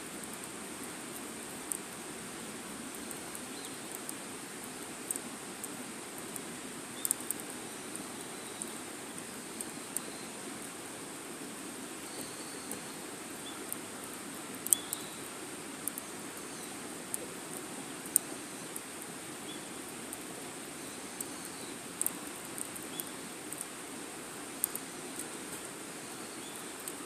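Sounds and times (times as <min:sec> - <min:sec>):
fire crackles and pops: 0:00.0 - 0:10.8, 0:11.9 - 0:25.7.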